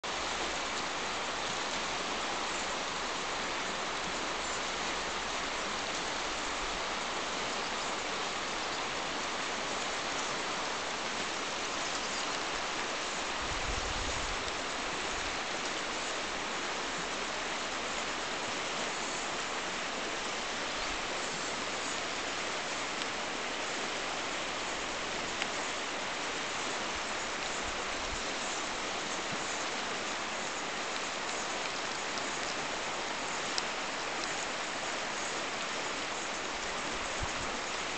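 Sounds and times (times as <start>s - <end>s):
river water rushing over stones: 0.0s - 37.9s.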